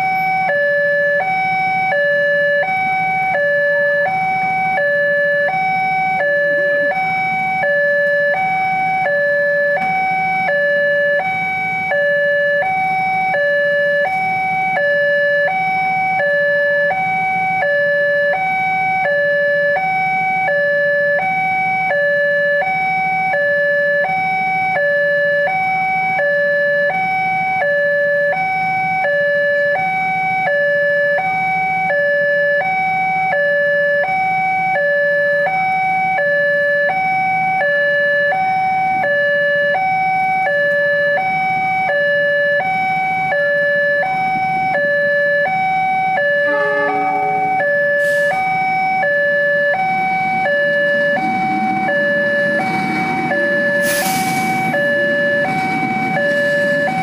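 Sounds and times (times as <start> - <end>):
two-tone electronic warning alarm: 0.0 - 57.0.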